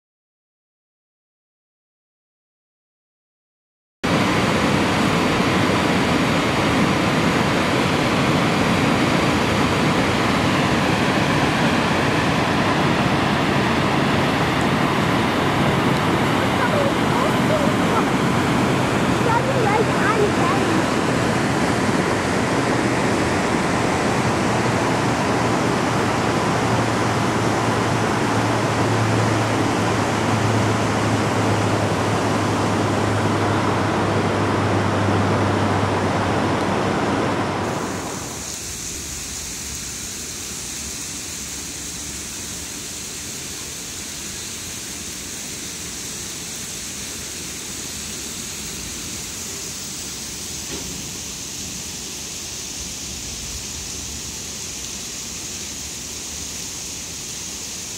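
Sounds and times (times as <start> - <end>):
rapids rushing: 4.0 - 57.9
water splashing off waterwheel buckets: 4.1 - 35.4, 37.6 - 57.9.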